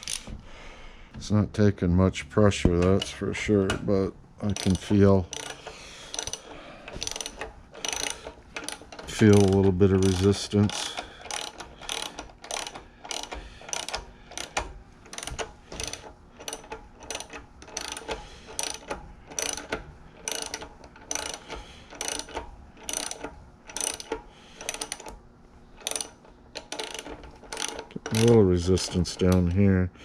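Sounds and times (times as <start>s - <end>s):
ratchet wrench clicking: 0.0s - 0.3s, 4.4s - 25.2s, 25.8s - 29.6s.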